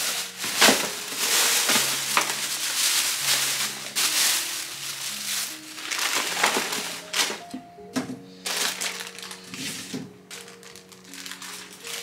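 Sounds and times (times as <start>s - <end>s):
plastic bags crinkling: 0.0s - 7.6s, 8.4s - 12.0s.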